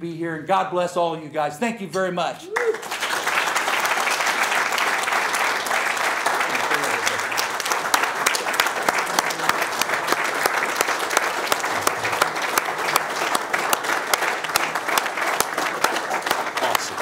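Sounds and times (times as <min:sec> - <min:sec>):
crowd applauding: 0:02.5 - 0:17.0.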